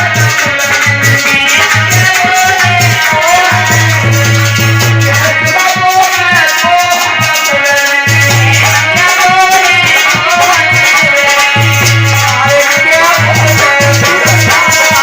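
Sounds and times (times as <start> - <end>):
shaker-like percussion and drums: 0.0 - 15.0.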